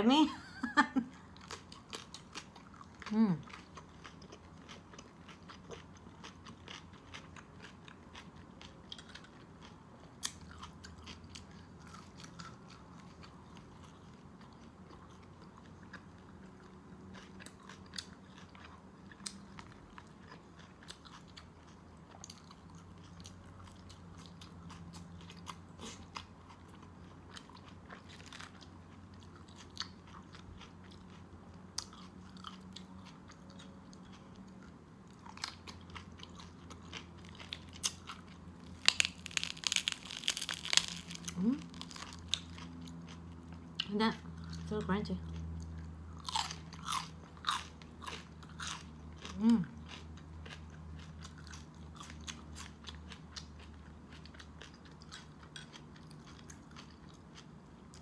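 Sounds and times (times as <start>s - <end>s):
faint low hum: 0.0s - 58.0s
chewing and crunching meat: 0.4s - 58.0s.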